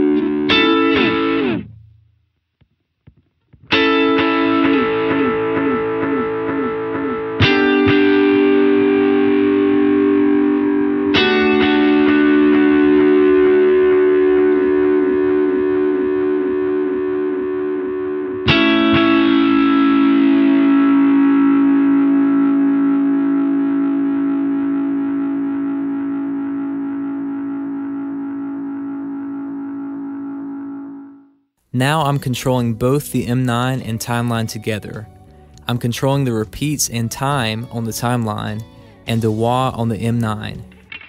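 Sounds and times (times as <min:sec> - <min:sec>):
electric guitar chords with delay: 0:00.0 - 0:02.0, 0:03.5 - 0:41.0.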